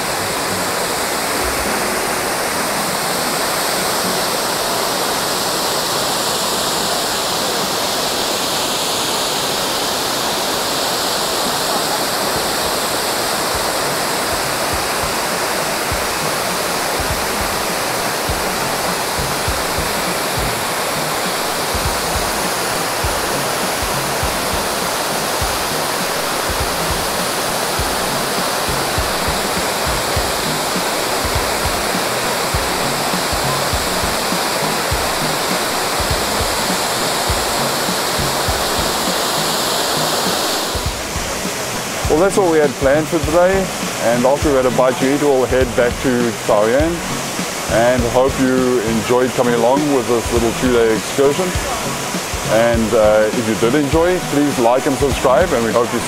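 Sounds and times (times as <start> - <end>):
waterfall pouring: 0.0 - 56.0.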